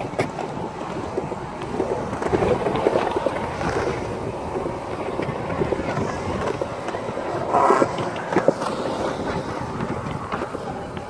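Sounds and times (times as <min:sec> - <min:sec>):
skateboard wheels rolling on concrete: 0:00.0 - 0:11.0.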